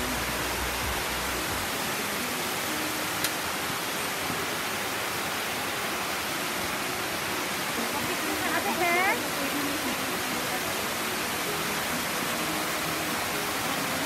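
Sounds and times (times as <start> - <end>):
waterfall rushing over rocks: 0.0 - 14.0.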